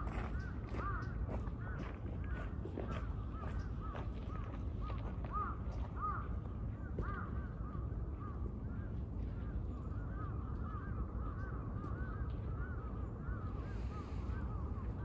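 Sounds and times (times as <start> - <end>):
flock of birds calling: 0.0 - 6.3, 6.9 - 15.0
steady low rumble: 0.0 - 15.0.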